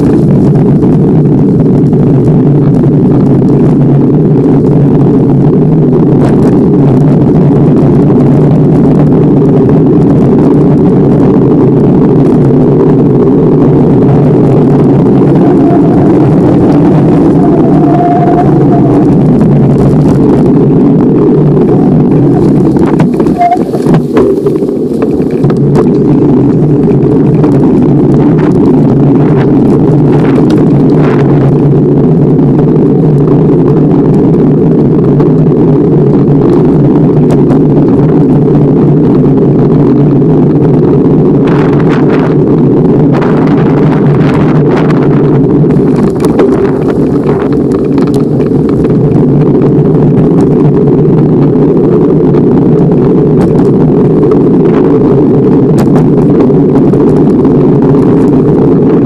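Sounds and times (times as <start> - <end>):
bicycle tyre road noise: 0.0 - 59.0
wind buffeting microphone: 0.0 - 59.0.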